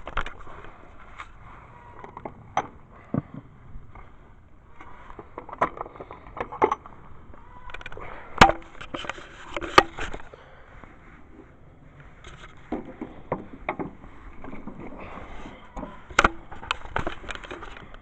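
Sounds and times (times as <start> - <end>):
hand tools clicking and clanking: 0.0 - 10.5, 12.1 - 18.0.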